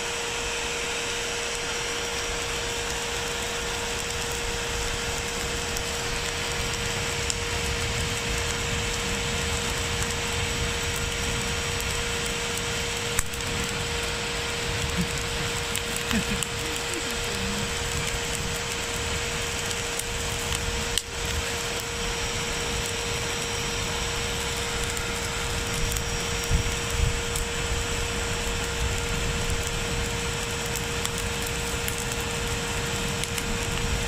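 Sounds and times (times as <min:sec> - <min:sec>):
electric blower whining: 0:00.0 - 0:34.0.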